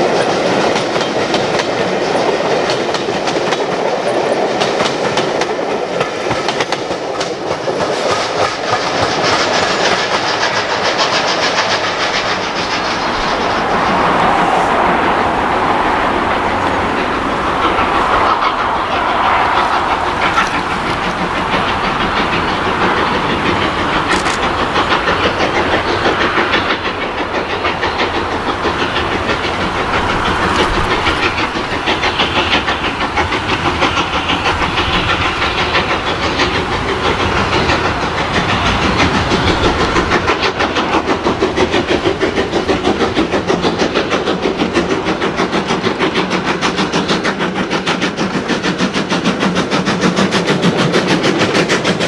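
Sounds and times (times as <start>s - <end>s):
steam locomotive exhaust beating: 0.0s - 52.0s.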